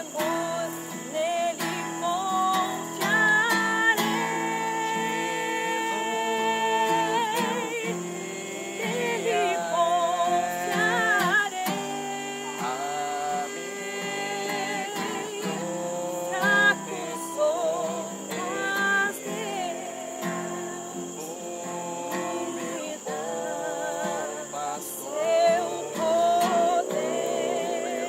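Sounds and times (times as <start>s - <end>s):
acoustic guitar: 0.0s - 28.0s
voices singing slow song: 0.0s - 28.0s.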